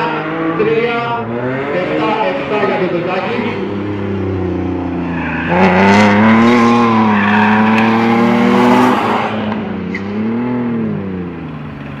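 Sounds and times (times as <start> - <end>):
car engine revving hard: 0.1 - 11.4.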